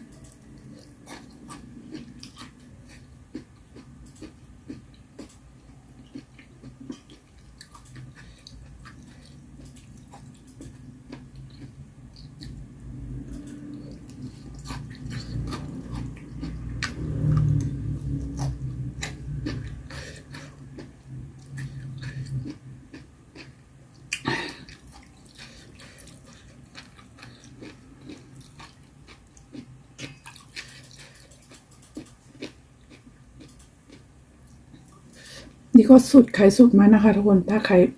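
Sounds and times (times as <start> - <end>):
person chewing: 0.0 - 35.6.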